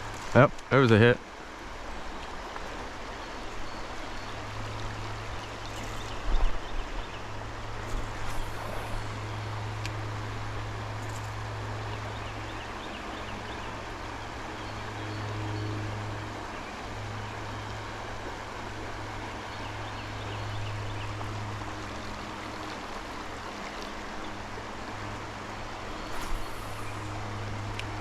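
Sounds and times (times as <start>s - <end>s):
creek water running: 0.0s - 28.0s
low hum: 4.3s - 24.2s, 24.8s - 28.0s.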